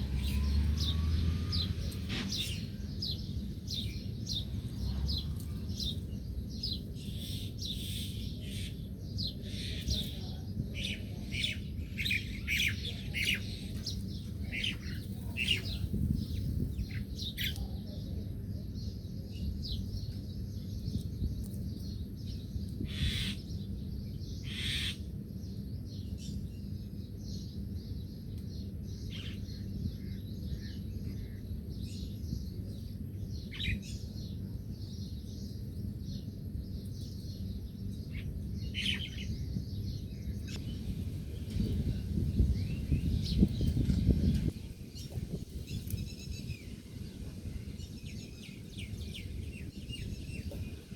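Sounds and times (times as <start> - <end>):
small birds chirping: 0.0 - 50.9
steady low rumble: 0.0 - 50.9.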